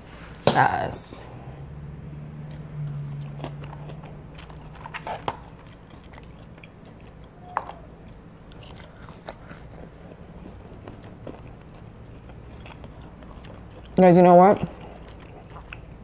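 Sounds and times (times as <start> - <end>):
chewing fries: 2.2 - 16.0.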